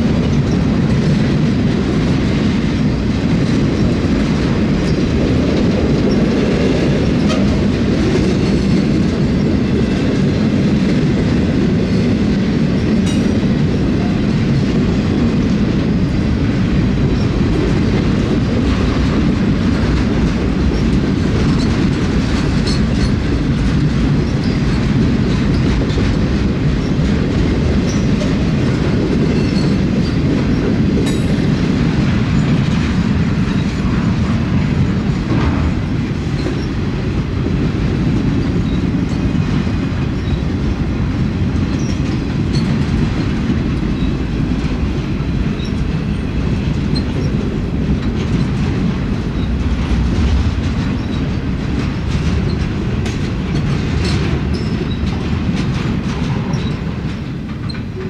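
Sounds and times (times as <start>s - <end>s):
freight train rumble: 0.0s - 58.0s
wheels clacking over rail joints: 0.0s - 58.0s.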